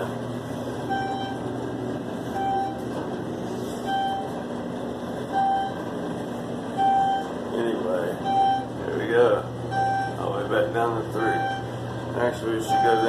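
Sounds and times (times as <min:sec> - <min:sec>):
elevator beeping: 0:00.0 - 0:13.0
ventilation hum: 0:00.0 - 0:13.0.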